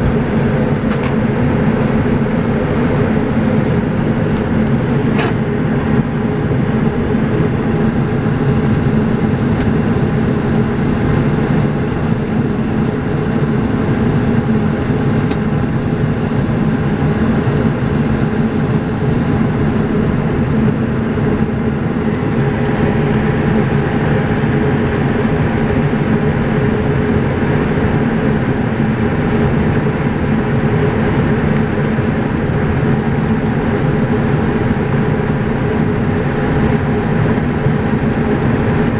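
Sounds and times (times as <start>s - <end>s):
turboprop engines droning in cabin: 0.0s - 38.9s.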